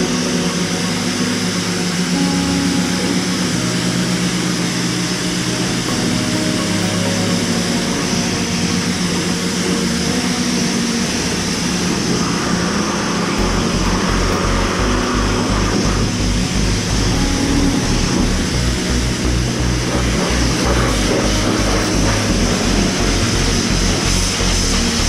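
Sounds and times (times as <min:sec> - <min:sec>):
music with low beat: 0:00.0 - 0:25.0
pressure washer spraying water: 0:04.4 - 0:25.0.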